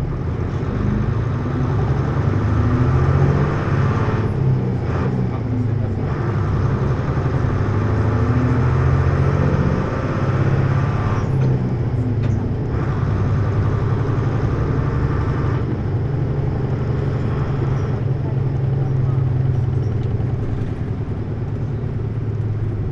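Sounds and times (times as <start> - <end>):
bus diesel engine drone: 0.0 - 22.9
road noise: 0.0 - 22.9.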